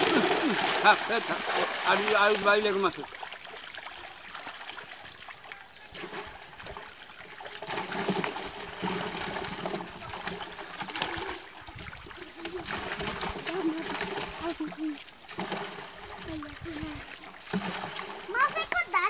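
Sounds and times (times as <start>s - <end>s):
pond water splashing and trickling: 0.0s - 19.0s.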